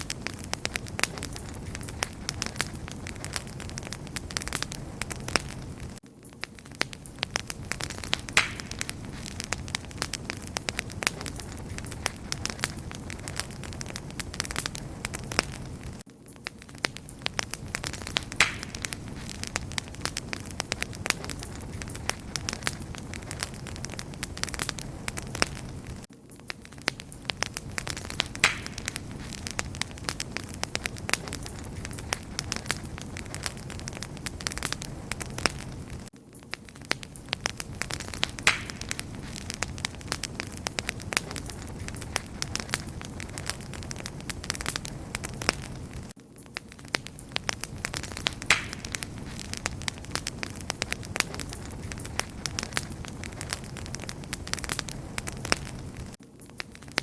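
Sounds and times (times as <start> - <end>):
low rumble of fire: 0.0 - 57.0
wood fire crackling and popping: 0.0 - 57.0.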